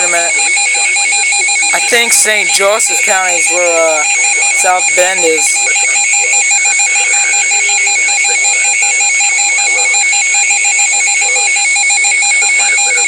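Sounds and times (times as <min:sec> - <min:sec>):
electronic alert tone beeping: 0:00.0 - 0:13.0.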